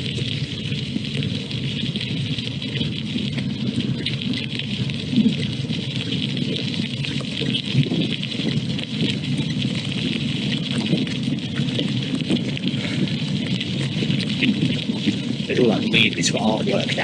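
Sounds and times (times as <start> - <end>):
wind on microphone: 0.0 - 17.0
tyres on a wet path: 2.0 - 17.0.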